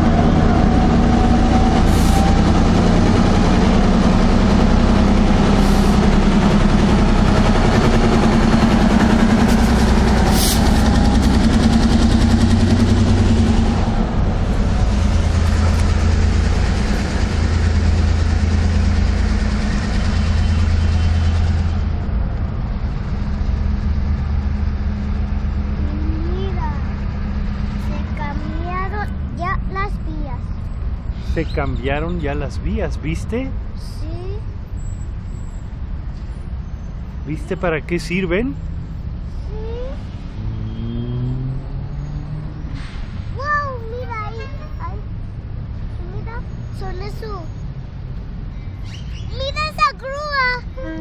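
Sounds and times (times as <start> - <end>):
diesel locomotive engine running: 0.0 - 48.5.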